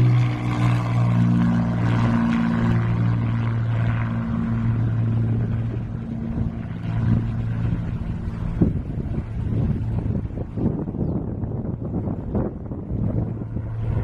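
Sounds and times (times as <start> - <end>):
propeller engines droning: 0.0 - 14.0.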